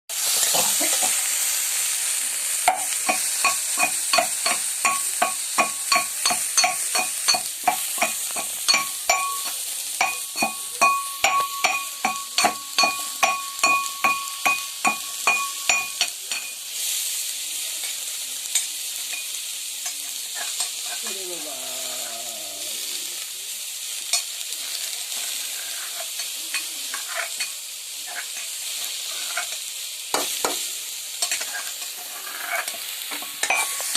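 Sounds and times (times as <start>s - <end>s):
wood fire crackling and hissing: 0.1s - 33.9s.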